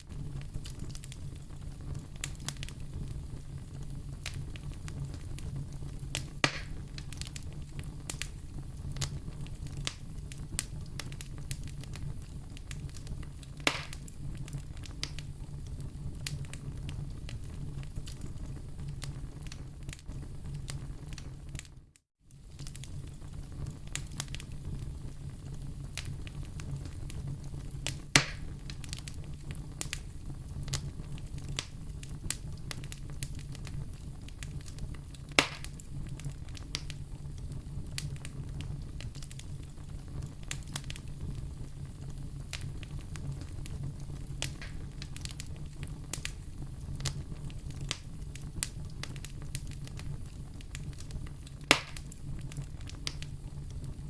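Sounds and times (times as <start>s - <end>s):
loud pops of fire: 0.0s - 54.0s
low rumble of fire: 0.0s - 54.0s
wood fire crackling: 0.0s - 54.0s.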